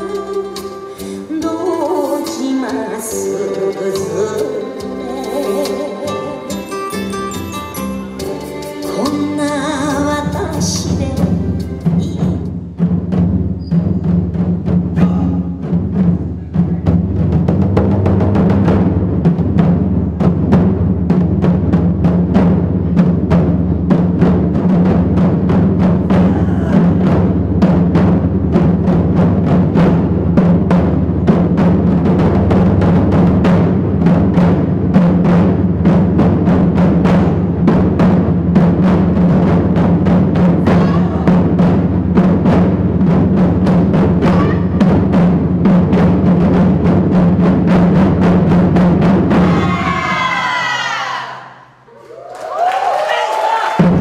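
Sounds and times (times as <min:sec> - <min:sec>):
taiko drums ensemble: 0:00.0 - 0:54.0.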